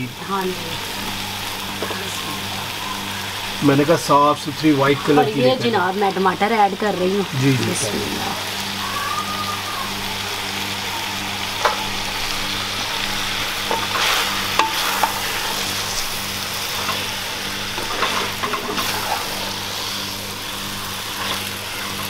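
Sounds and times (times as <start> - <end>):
masala sizzling: 0.0 - 22.0.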